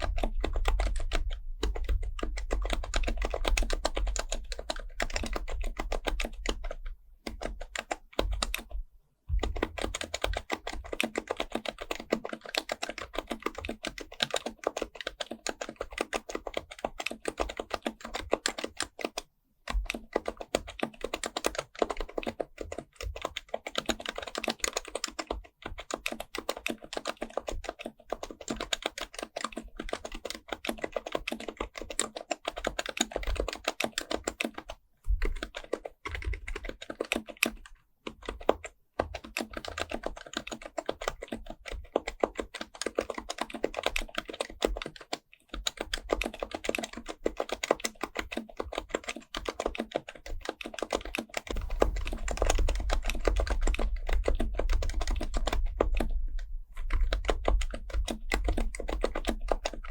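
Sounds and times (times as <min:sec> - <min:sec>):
fast keyboard typing: 0:00.0 - 0:59.9.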